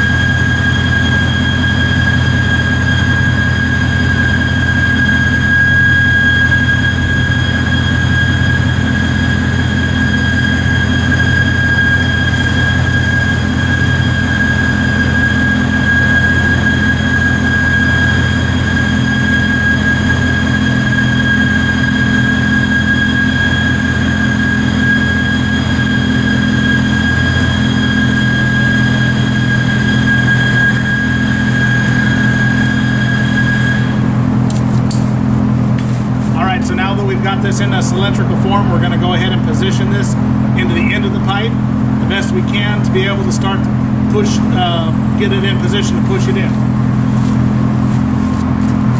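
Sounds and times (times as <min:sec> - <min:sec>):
high whistle of air flow: 0:00.0 - 0:48.9
low steady hum: 0:00.0 - 0:48.9.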